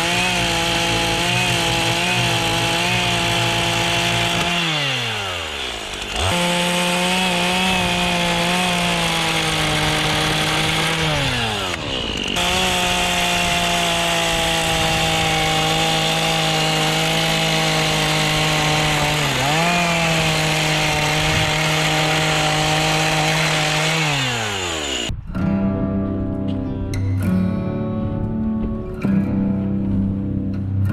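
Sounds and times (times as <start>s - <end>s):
chainsaw cutting wood: 0.0s - 25.1s.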